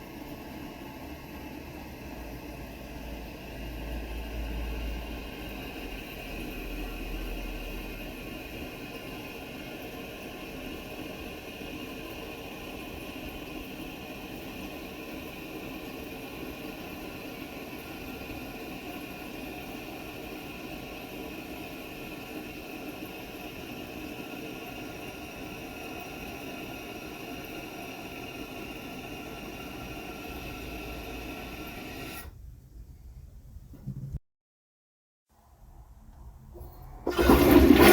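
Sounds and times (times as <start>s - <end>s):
toilet cistern refilling: 1.6s - 32.3s, 36.6s - 37.9s.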